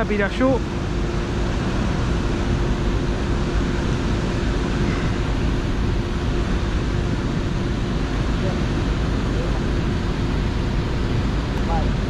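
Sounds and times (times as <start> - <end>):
constant low hum: 0.0 - 12.0
water noise: 0.0 - 12.0
wind: 0.0 - 12.0.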